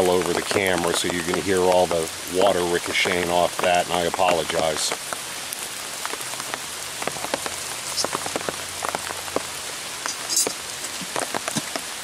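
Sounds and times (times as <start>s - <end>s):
raindrops tapping on umbrella: 0.0s - 12.0s
steady rain: 0.0s - 12.0s.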